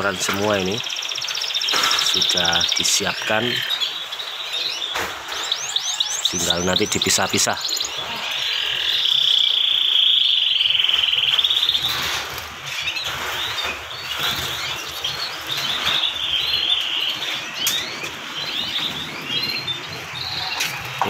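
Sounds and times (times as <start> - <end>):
canaries singing and chirping: 0.0 - 21.0.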